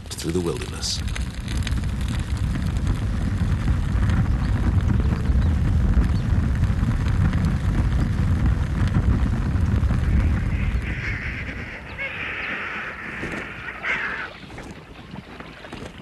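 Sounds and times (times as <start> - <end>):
fire crackling: 0.0 - 16.0
low rumble of flames: 0.0 - 16.0.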